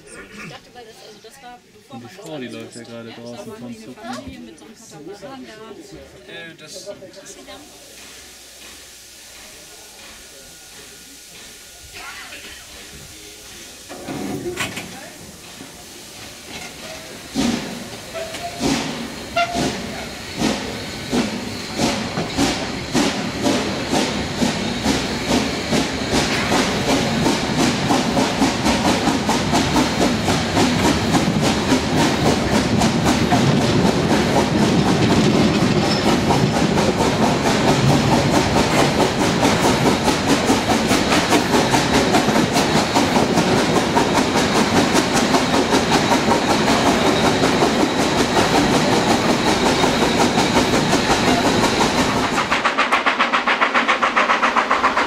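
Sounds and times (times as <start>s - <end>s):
steam hissing: 6.3s - 55.0s
steam locomotive chuffing: 6.3s - 55.0s.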